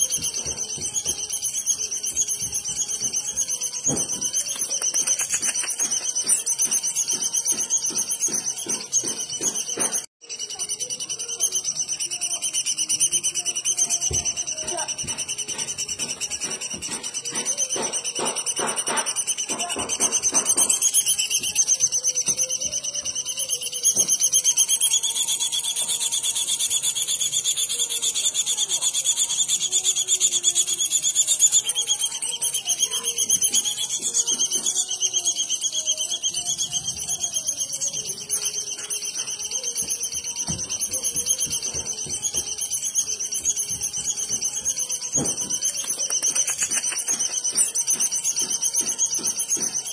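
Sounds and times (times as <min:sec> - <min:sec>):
bird rapid pulsed trill: 0:00.0 - 0:49.9.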